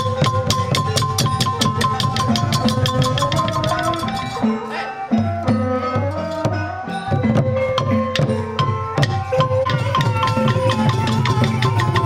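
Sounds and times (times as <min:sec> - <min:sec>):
hand drums beating: 0:00.0 - 0:12.0
held melodic line: 0:00.0 - 0:12.0.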